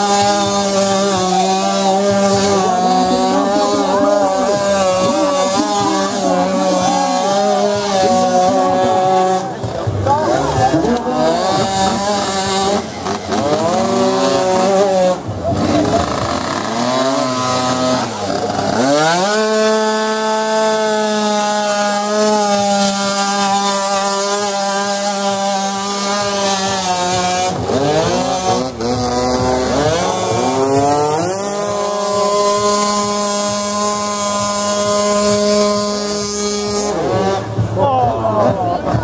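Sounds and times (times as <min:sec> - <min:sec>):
two-stroke scooter engine revving: 0:00.0 - 0:39.0.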